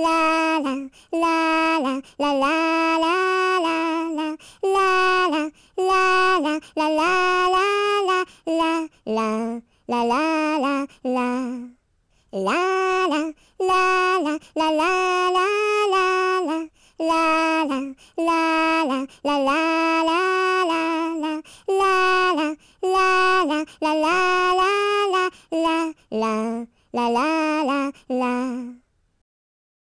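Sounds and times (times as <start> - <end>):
woman singing unaccompanied: 0.0 - 28.8.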